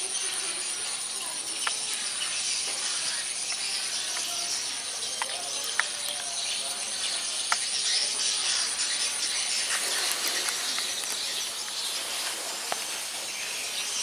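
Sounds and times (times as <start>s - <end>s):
even outdoor hiss: 0.0s - 14.0s.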